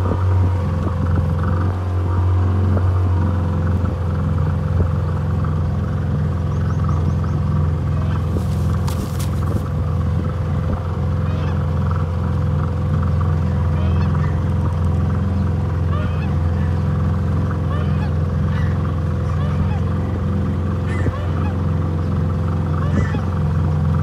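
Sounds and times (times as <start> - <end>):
boat motor droning hum: 0.0 - 24.0.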